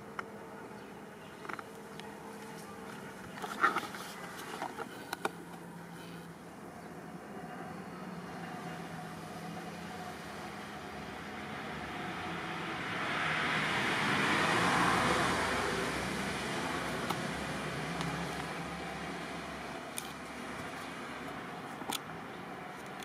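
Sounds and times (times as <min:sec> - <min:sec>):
passing road vehicle: 0:00.0 - 0:23.0.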